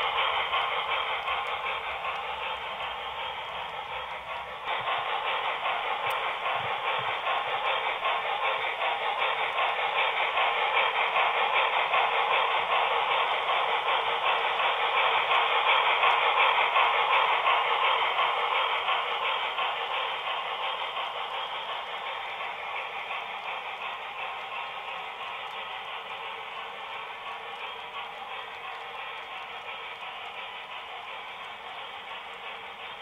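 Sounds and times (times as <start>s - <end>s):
model train wheels rattling on rails: 0.0s - 33.0s.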